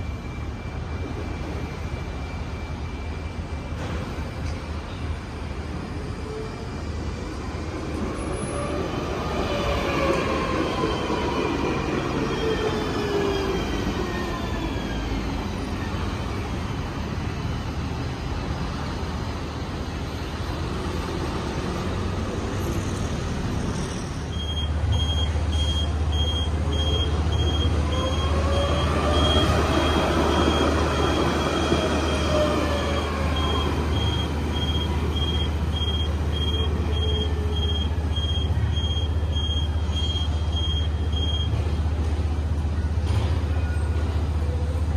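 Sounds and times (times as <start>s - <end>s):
tram electric drive whining: 0.0s - 44.9s.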